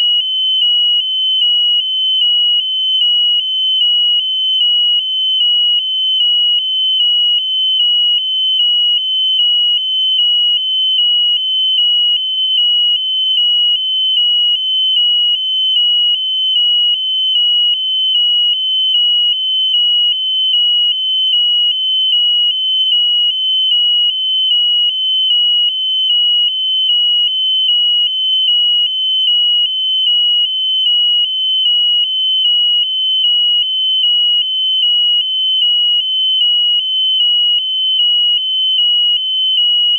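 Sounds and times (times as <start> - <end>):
piezo buzzer high-pitched tone: 0.0 - 39.9.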